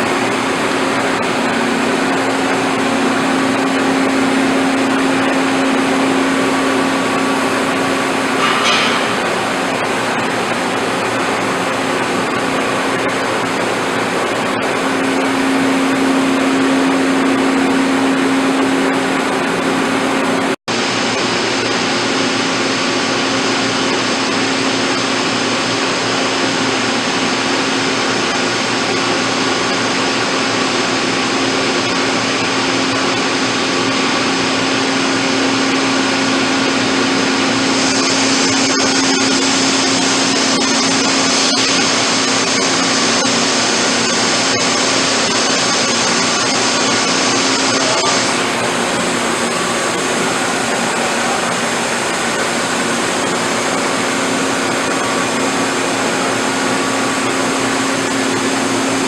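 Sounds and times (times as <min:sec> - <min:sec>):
boring mill whirring: 0:00.0 - 0:21.0, 0:29.2 - 0:59.0.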